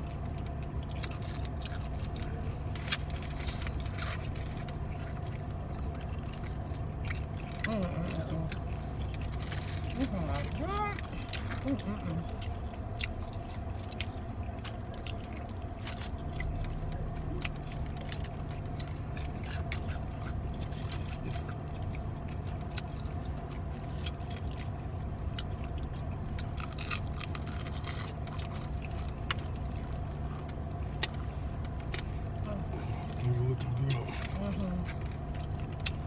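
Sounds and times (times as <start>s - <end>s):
chewing crunchy food: 0.0s - 36.0s
low hum inside car: 0.0s - 36.0s.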